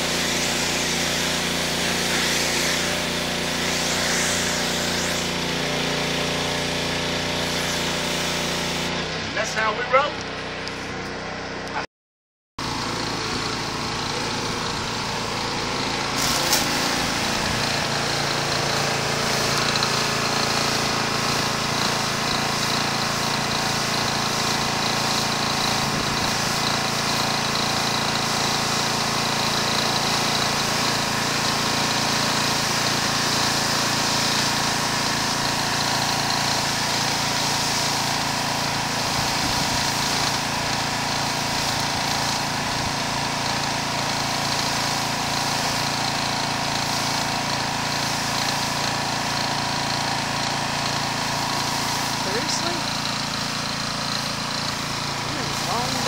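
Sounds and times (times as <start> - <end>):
water jet hissing on concrete: 0.0 - 9.0, 12.6 - 56.0
pressure washer motor drone: 0.0 - 11.8, 12.6 - 56.0.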